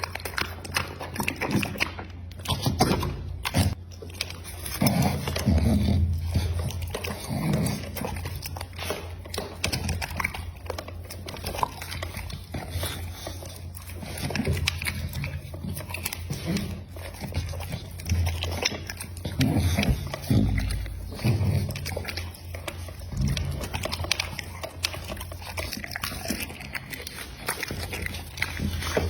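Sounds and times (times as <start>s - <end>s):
dog chewing and crunching: 0.0s - 29.0s
low throaty dog noises: 0.0s - 29.0s.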